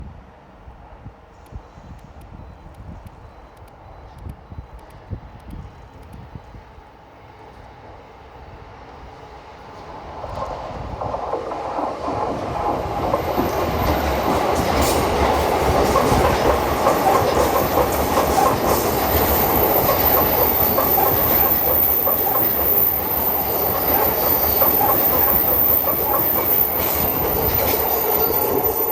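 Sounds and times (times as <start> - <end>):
electric train passing: 0.2 - 28.9.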